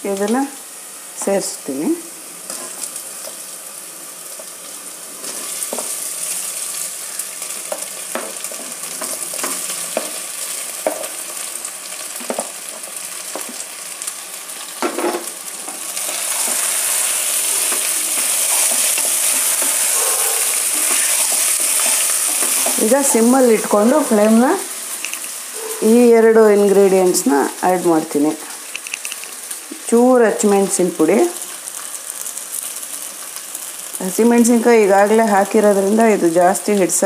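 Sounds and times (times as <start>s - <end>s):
hot oil sizzling in a pan: 0.0s - 37.0s.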